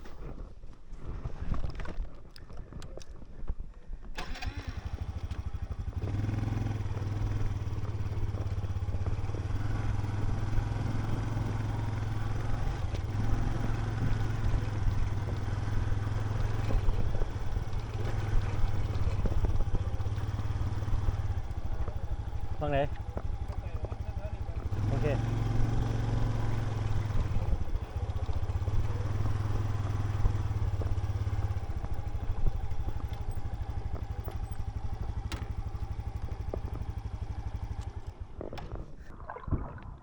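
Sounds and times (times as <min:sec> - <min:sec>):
motorcycle engine running: 0:04.1 - 0:39.1.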